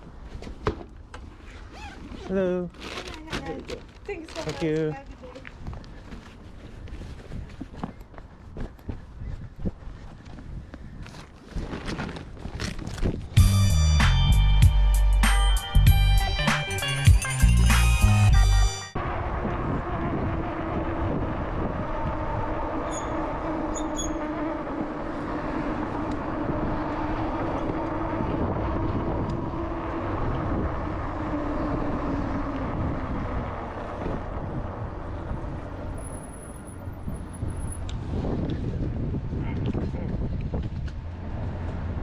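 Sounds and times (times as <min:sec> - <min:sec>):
tyre road noise: 0:00.0 - 0:14.8, 0:16.8 - 0:42.0.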